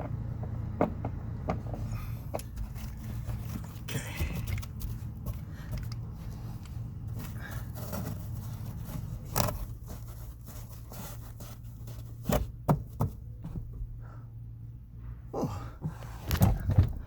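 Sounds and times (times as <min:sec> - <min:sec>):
knocks and scrapes of parts: 0:00.0 - 0:13.9, 0:15.8 - 0:17.0
steady low hum: 0:00.0 - 0:17.0.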